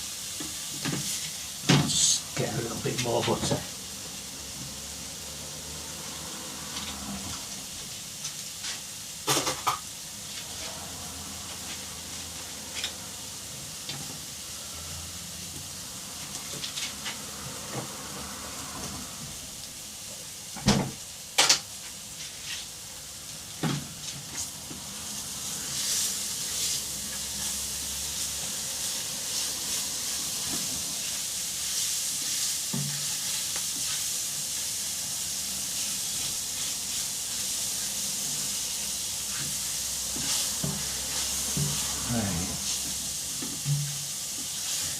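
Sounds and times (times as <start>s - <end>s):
onions sizzling in butter: 0.0s - 44.9s.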